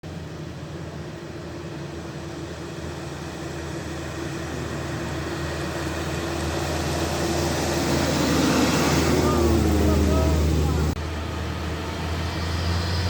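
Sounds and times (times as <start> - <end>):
truck diesel engine climbing: 0.0 - 13.0.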